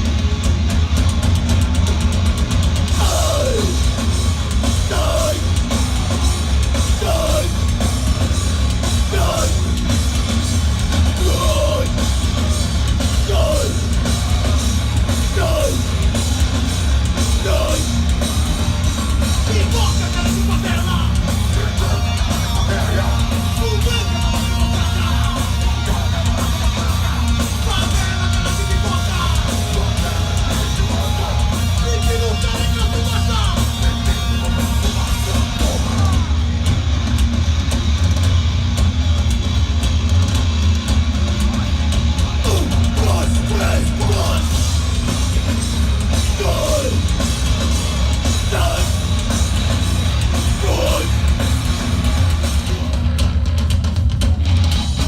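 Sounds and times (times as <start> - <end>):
yelled vocals: 0.0 - 37.3, 41.5 - 53.6
heavy metal band playing: 0.0 - 55.0.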